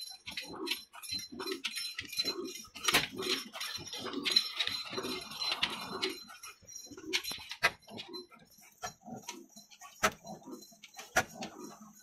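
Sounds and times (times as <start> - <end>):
metallic clicks from running gear: 0.0 - 12.0.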